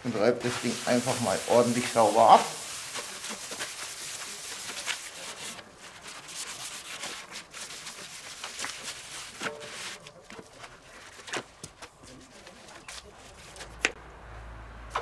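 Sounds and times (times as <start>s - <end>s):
paper scrubbing a steel plate: 0.1s - 14.0s.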